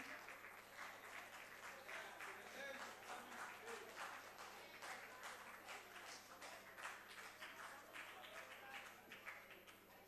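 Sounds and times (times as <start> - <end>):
scattered applause: 0.0 - 10.0.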